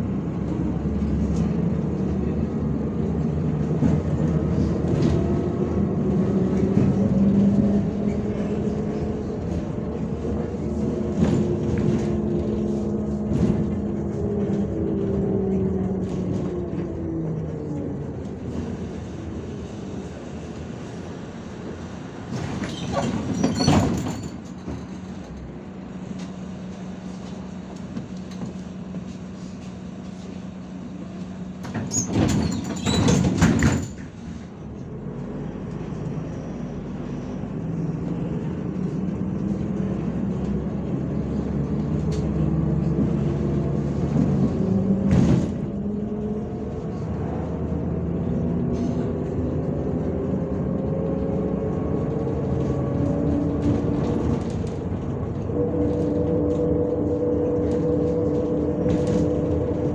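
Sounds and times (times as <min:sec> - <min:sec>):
bus engine idling: 0:00.0 - 0:59.9
bus engine running: 0:00.0 - 0:59.9.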